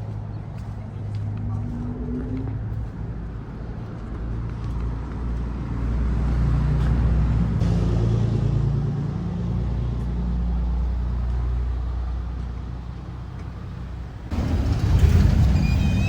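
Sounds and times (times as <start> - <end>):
car road noise: 0.0 - 16.0.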